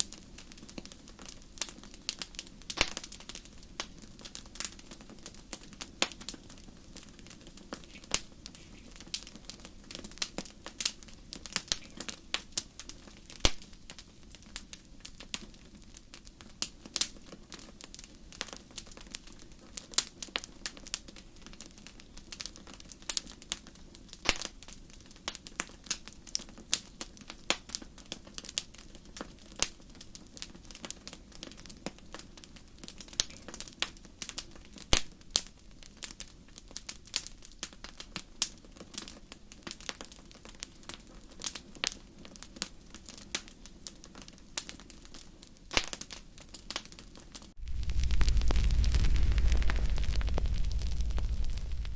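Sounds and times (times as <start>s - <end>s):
campfire crackling: 0.0s - 51.9s.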